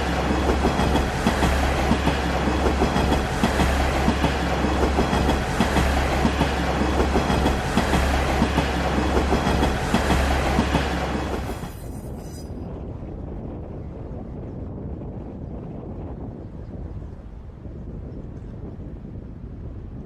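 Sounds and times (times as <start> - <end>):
railcar rumbling on rails: 0.0 - 19.8.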